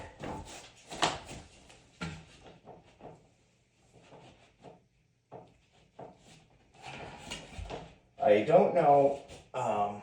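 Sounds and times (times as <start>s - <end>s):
faint knocks and clunks: 0.0s - 8.2s.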